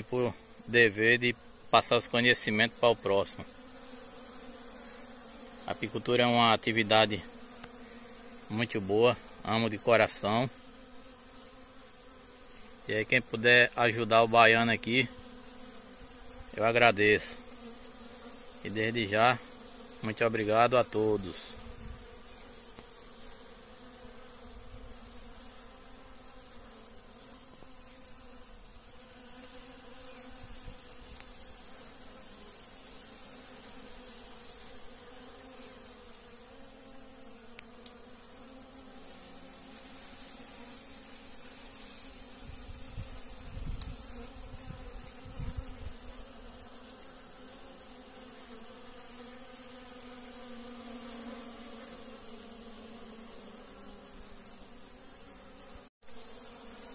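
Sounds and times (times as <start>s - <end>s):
bees buzzing: 0.0s - 56.9s.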